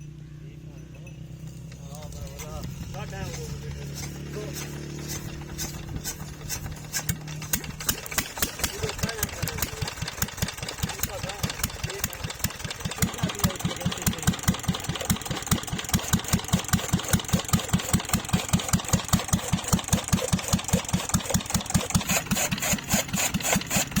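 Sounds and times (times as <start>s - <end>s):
engine clatter: 0.0s - 24.0s
diesel engine thudding: 1.5s - 24.0s.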